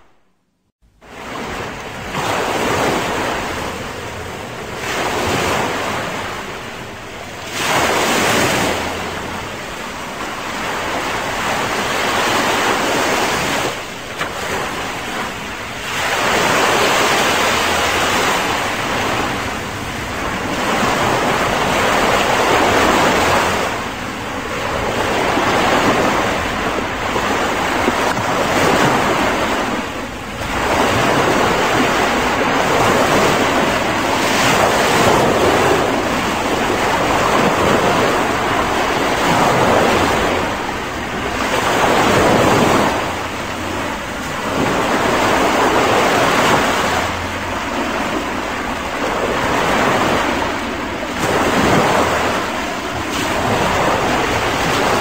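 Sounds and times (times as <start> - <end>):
waves breaking on a beach: 0.9 - 55.0.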